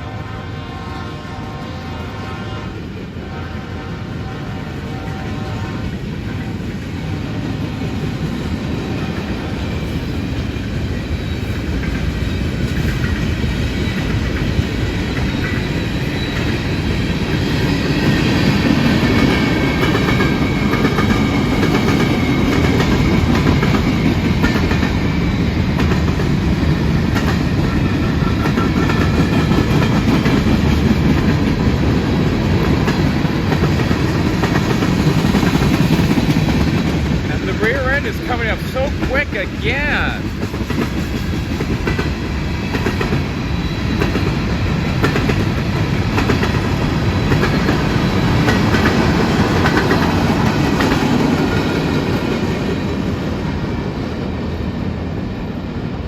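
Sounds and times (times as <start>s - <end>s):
freight train cars rumbling: 0.0s - 56.0s.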